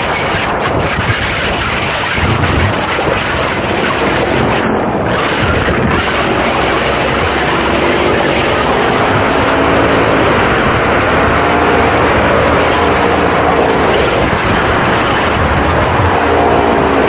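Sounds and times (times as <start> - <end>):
paramotor engine drone: 0.0 - 17.0
rushing air: 0.0 - 17.0.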